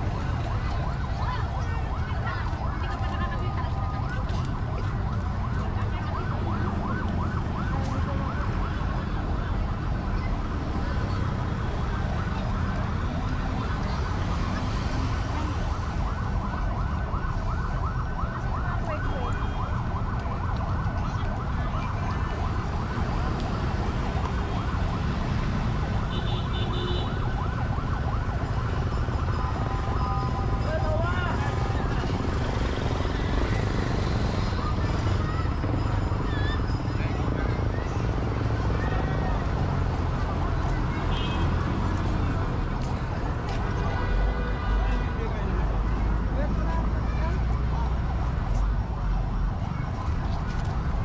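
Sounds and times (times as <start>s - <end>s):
street traffic rumble: 0.0s - 51.0s.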